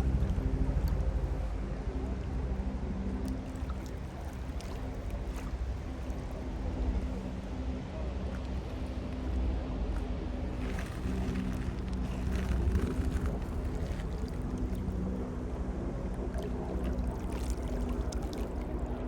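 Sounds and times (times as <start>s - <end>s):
light ticks and splashes: 0.0s - 19.0s
wind rumbling on microphone: 0.0s - 19.0s.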